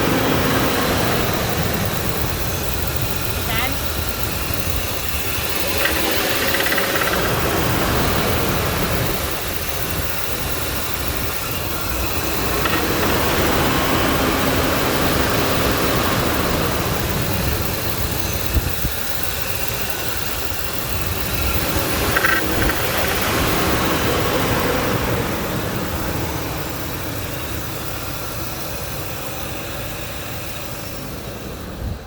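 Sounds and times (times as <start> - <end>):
clicking in engine: 0.0 - 32.0
engine idling: 0.0 - 32.0.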